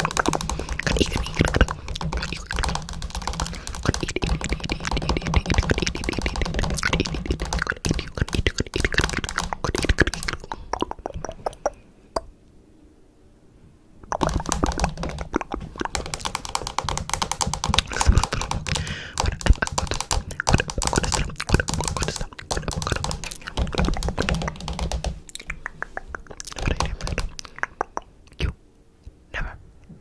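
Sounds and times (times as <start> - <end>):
rapid tapping and clicking: 0.0 - 11.8, 14.1 - 28.0.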